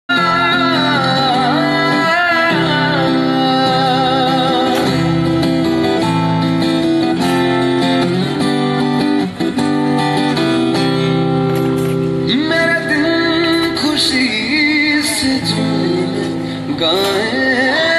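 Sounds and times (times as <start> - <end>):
acoustic guitar strumming: 0.1 - 17.9.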